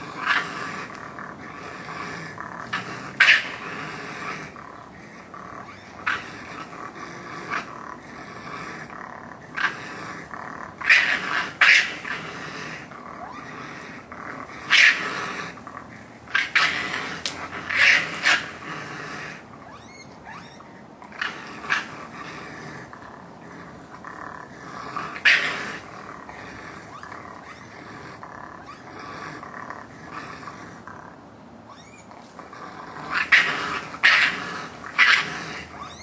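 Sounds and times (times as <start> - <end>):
raccoons growling and snarling: 0.0 - 36.0.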